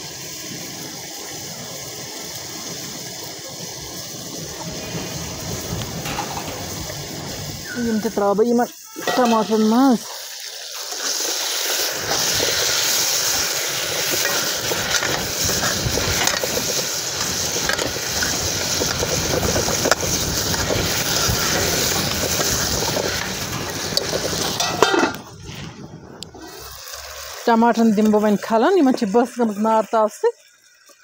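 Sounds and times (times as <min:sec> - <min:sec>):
vegetables sizzling in oil: 0:00.0 - 0:25.7, 0:26.3 - 0:31.0.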